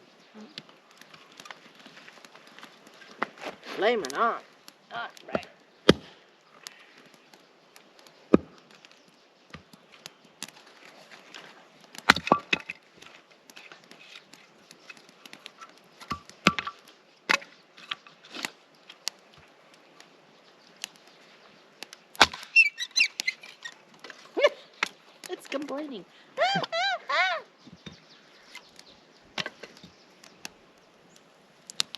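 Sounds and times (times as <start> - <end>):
splintering wood crackle: 0.0 - 26.9, 27.6 - 31.9
firewood being split: 0.3 - 31.9.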